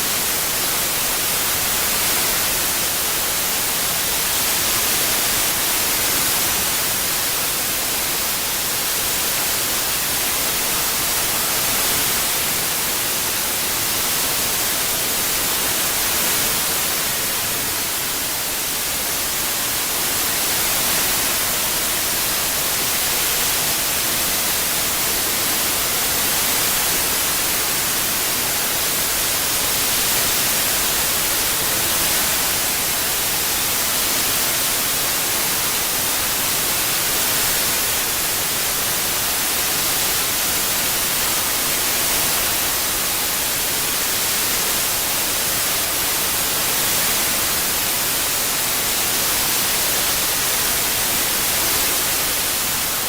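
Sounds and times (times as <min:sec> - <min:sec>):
white noise hiss: 0:00.0 - 0:53.0.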